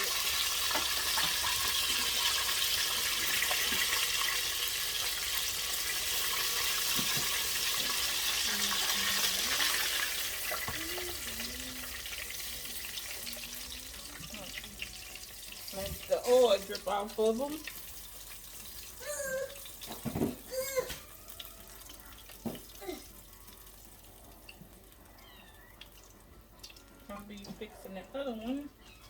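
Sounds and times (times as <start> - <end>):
oil sizzling in deep fryer: 0.0 - 28.9.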